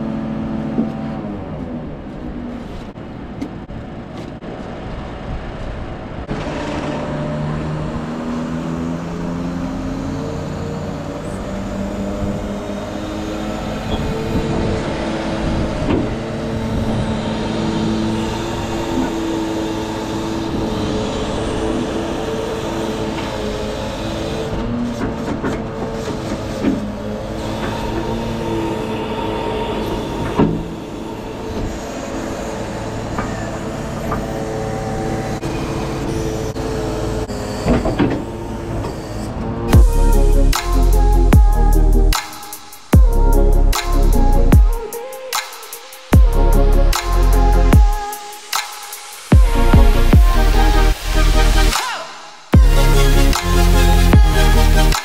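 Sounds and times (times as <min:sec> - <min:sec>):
truck engine at raised revs: 0:00.0 - 0:44.6, 0:45.3 - 0:55.0
hydraulic pump whine: 0:06.3 - 0:42.2, 0:46.1 - 0:55.0.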